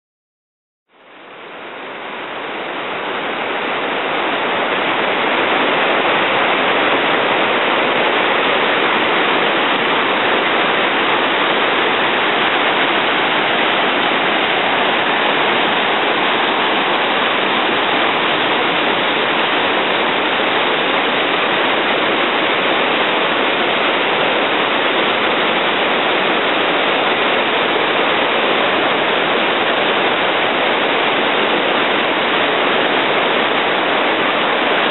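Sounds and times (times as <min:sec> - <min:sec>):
river rapids and waterfall rushing: 0:01.0 - 0:34.9.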